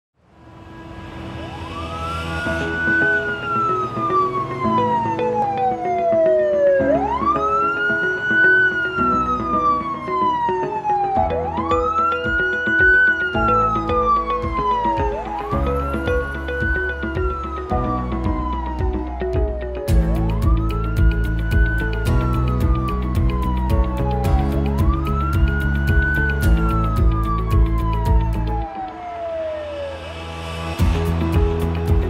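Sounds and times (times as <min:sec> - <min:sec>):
synth music with bass: 0:00.8 - 0:32.0
ambulance siren wailing: 0:01.1 - 0:32.0.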